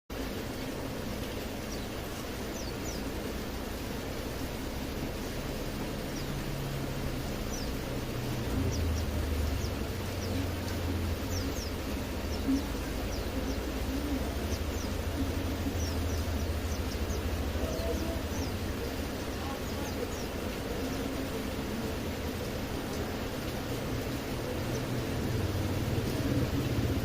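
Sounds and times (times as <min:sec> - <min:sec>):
rain hiss: 0:00.1 - 0:27.0
small birds chirping: 0:00.2 - 0:27.0
low hum: 0:00.4 - 0:27.0.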